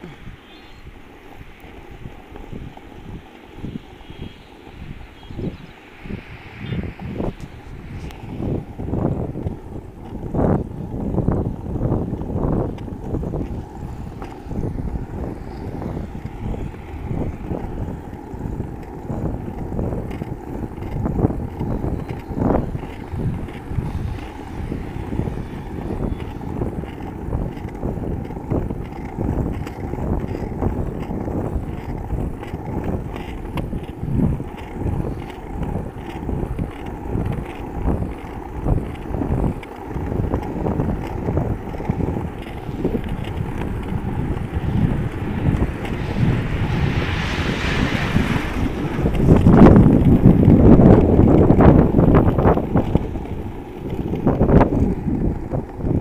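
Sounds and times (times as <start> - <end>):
wheels rolling over pavement: 0.0 - 56.0
wind buffeting microphone: 0.0 - 56.0.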